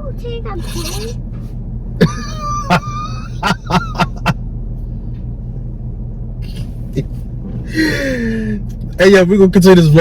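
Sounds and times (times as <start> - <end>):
car rumble inside cabin: 0.0 - 10.0.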